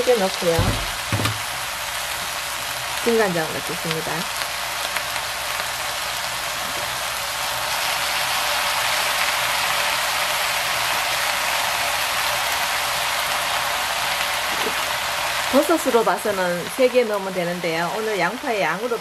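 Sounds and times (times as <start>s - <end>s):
mushrooms sizzling in frying pan: 0.0s - 19.0s.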